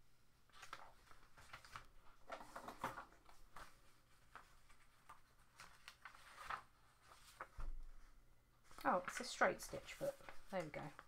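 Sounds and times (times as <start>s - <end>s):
paper leaflet rustling: 0.4s - 11.0s.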